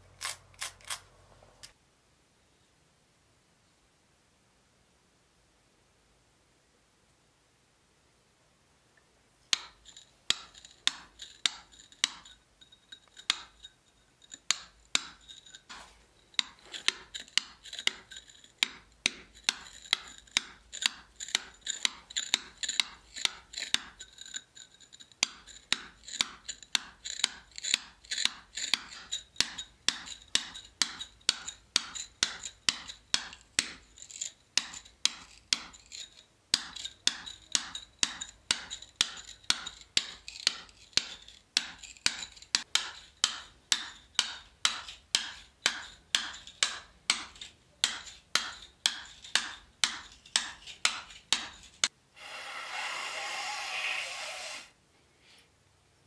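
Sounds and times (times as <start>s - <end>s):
hammer striking steel chisel: 9.5s - 54.7s.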